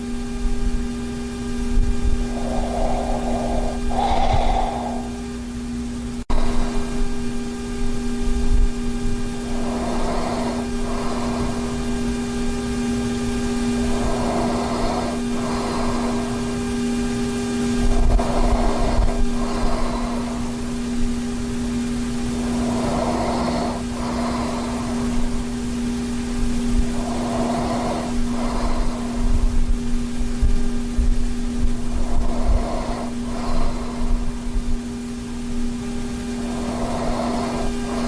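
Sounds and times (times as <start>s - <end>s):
steady hum: 0.0s - 38.0s
man breathing heavily in sleep: 1.6s - 38.0s.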